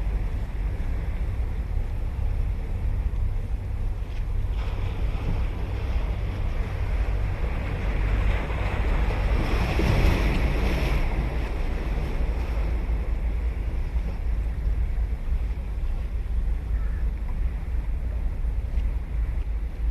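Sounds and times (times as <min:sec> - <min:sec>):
ocean waves breaking on beach: 0:00.0 - 0:19.9
wind rumble on microphone: 0:00.0 - 0:19.9.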